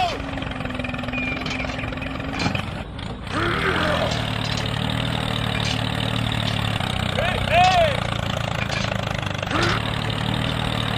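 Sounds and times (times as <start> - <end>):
engine humming: 0.0 - 10.9.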